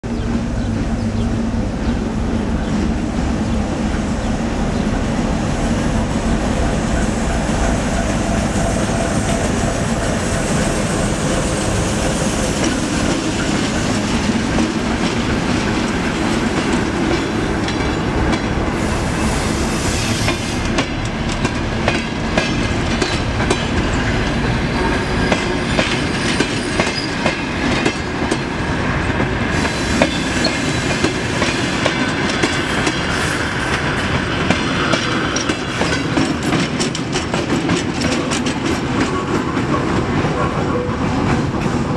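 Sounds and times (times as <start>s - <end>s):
train wheels clacking on rails: 6.2s - 41.9s.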